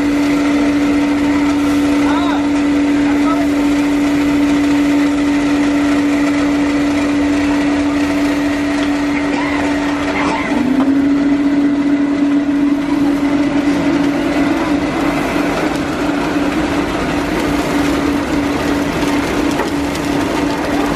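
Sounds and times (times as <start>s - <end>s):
machine motor humming: 0.0s - 20.9s.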